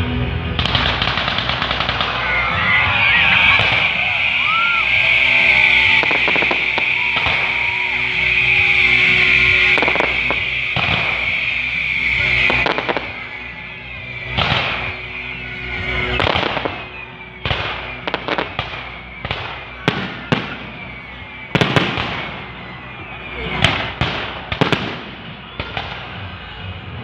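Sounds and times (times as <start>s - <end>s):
fireworks hissing: 0.6s - 26.6s
fireworks bangs with crackling: 0.6s - 27.0s.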